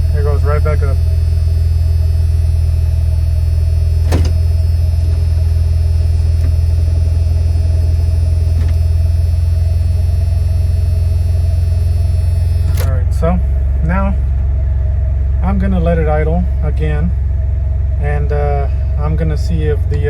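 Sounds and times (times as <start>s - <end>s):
ac blower running: 0.0s - 20.0s
truck engine idling: 0.0s - 20.0s.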